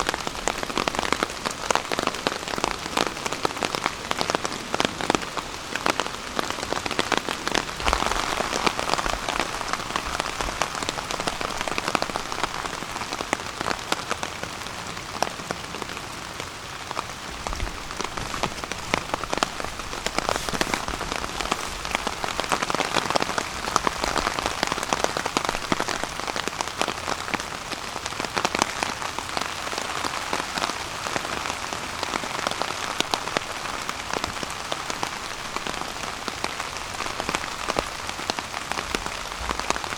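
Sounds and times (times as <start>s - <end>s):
rain falling on a tarp: 0.0s - 39.9s.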